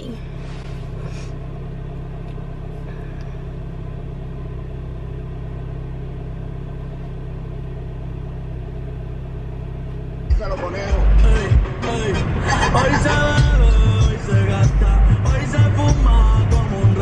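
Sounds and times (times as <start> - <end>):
car interior road and engine rumble: 0.0 - 17.0.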